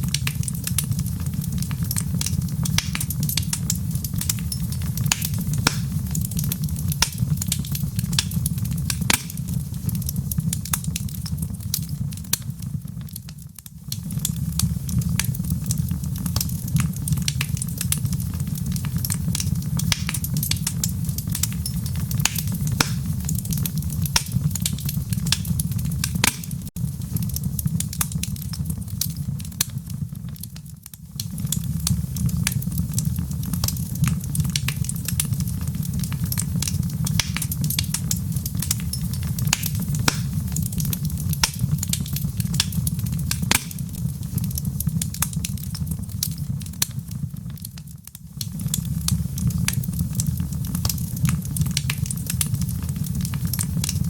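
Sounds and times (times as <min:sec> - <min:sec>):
low rumble of fire: 0:00.0 - 0:54.0
wood fire crackling and popping: 0:00.0 - 0:54.0.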